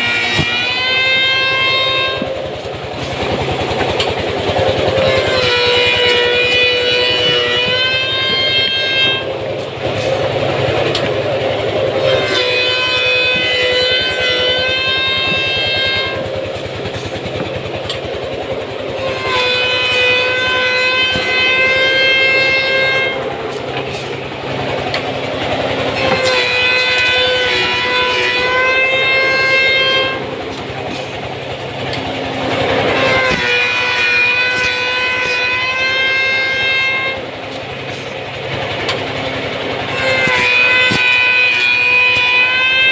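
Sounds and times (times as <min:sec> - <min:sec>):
pitched machine whine: 0:00.0 - 0:42.9
woodworking machine chatter: 0:00.0 - 0:42.9.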